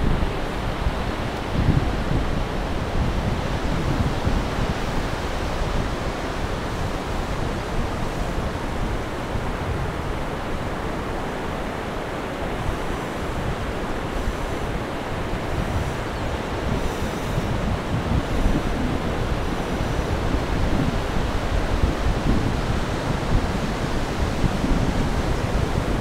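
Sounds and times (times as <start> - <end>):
surf breaking on beach: 0.0 - 26.0
wind on microphone: 0.0 - 26.0.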